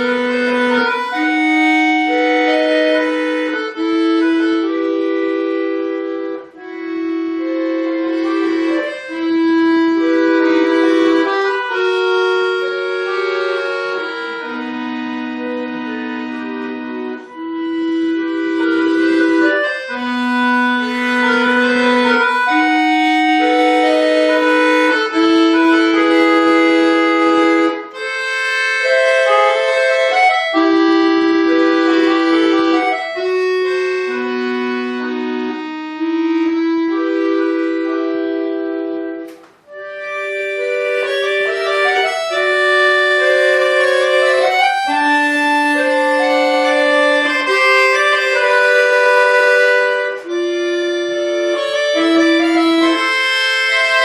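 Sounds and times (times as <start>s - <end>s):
button accordion melody: 0.0s - 54.0s.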